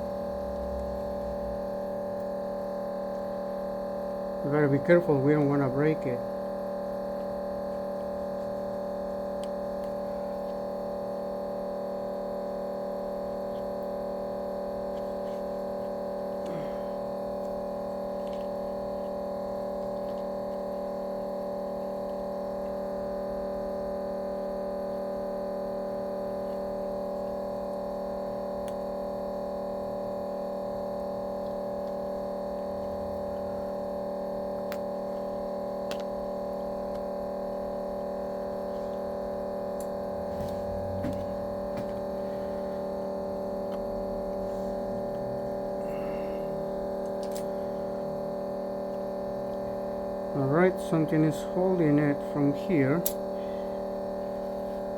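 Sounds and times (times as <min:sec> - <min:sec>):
electrical hum: 0:00.0 - 0:54.9.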